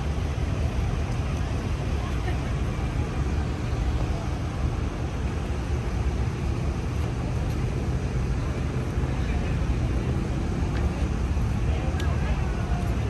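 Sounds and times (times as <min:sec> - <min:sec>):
crane engine rumbling: 0:00.0 - 0:13.0.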